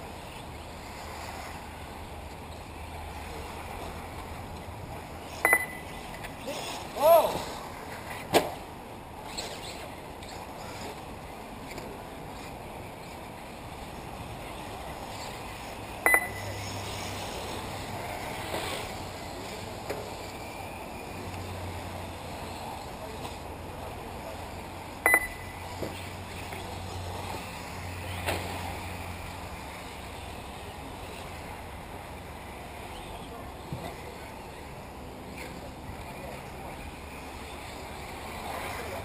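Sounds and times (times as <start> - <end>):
distant rc buggies running: 0.0 - 39.0.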